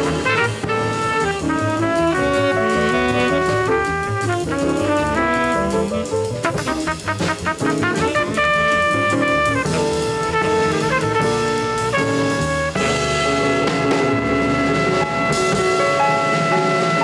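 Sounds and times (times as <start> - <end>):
drum kit playing: 0.0 - 17.0
jazz horns: 0.0 - 17.0.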